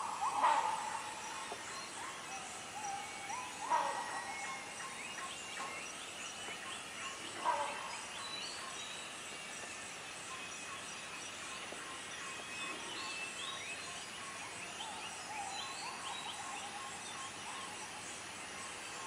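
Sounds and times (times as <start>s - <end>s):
birds and insects calling: 0.0s - 19.0s.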